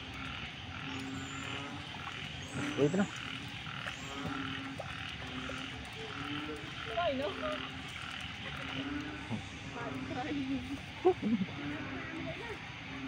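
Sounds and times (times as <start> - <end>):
frogs croaking: 0.0 - 13.0
wavering frog call: 0.0 - 13.0.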